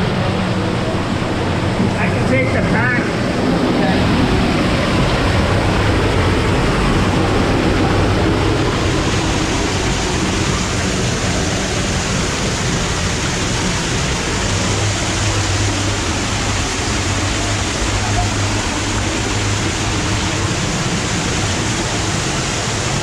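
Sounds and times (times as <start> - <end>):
rush of falling water: 0.0 - 23.0.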